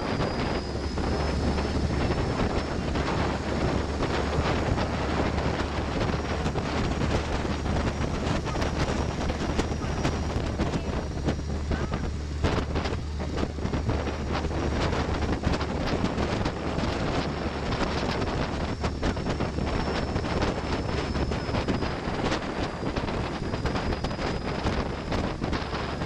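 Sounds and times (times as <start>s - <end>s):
boat engine humming: 0.0s - 26.0s
water rushing: 0.0s - 26.0s
wind buffeting microphone: 0.0s - 26.0s.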